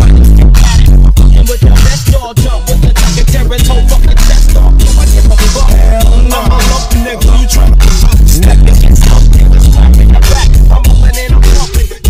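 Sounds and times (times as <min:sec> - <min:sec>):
hip-hop beat with heavy bass: 0:00.0 - 0:12.0
person rapping: 0:00.0 - 0:12.0.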